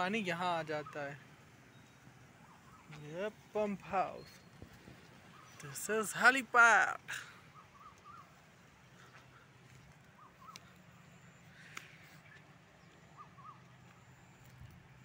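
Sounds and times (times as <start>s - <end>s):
faint bird calls: 0.6s - 3.3s, 4.1s - 5.9s, 7.0s - 15.0s.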